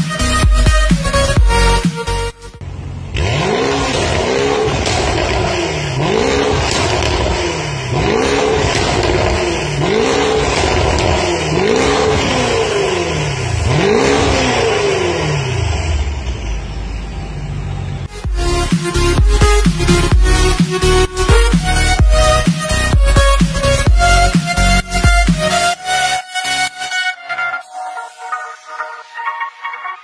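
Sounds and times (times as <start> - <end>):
car engine revving: 0.2 - 27.0.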